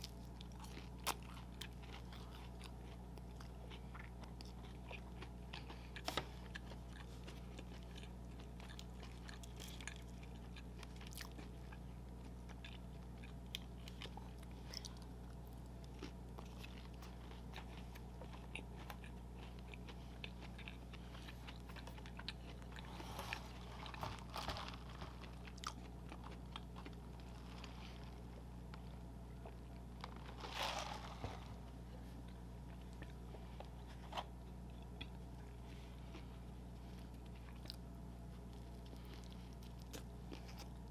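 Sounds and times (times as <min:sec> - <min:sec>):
person chewing and crunching: 0:00.0 - 0:40.9
steady low hum: 0:00.0 - 0:40.9.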